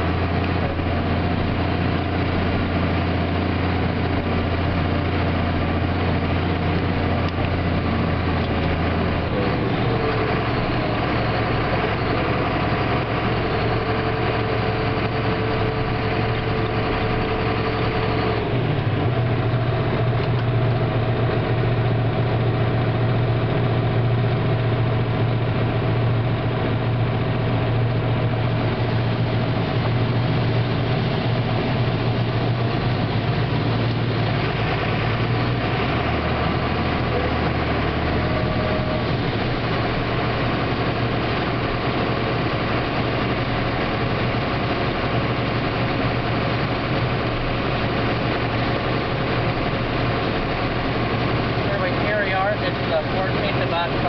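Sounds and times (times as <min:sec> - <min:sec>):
combine harvester engine and threshing: 0:00.0 - 0:54.0.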